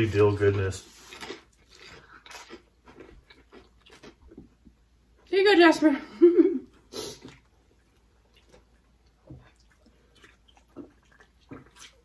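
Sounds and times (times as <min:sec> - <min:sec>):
people chewing: 0:00.0 - 0:04.8, 0:06.6 - 0:12.0.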